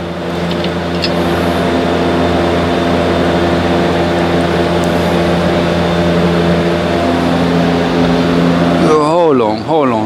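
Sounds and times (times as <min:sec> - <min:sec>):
machine motor humming: 0:00.0 - 0:10.0.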